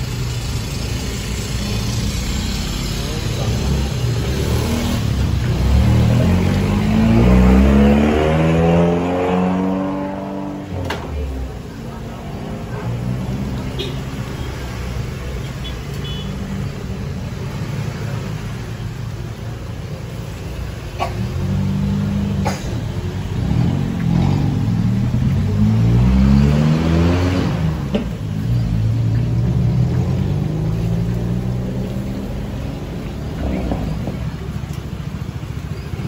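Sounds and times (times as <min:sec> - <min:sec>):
vehicle engine passing: 0:00.0 - 0:15.4, 0:21.2 - 0:36.0
low traffic rumble: 0:00.0 - 0:36.0.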